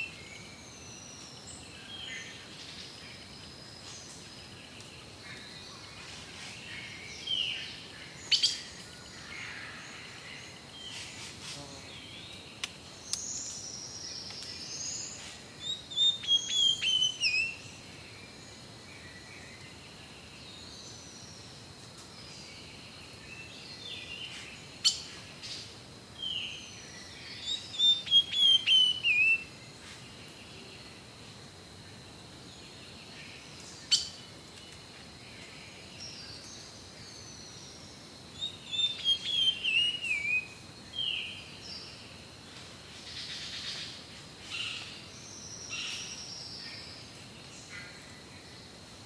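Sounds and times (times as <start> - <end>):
birds calling and singing: 0.0 - 31.0, 32.5 - 42.1, 42.9 - 48.7.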